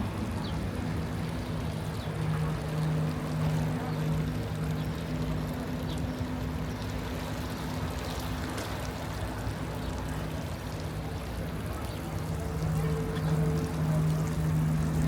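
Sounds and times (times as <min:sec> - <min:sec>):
flowing water rushing: 0:00.0 - 0:15.0
low steady hum: 0:00.0 - 0:15.0.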